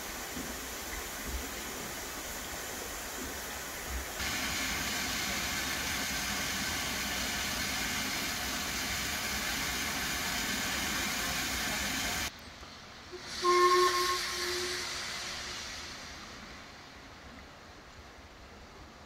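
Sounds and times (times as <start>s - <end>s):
steam hissing: 0.0s - 12.3s, 13.1s - 17.2s.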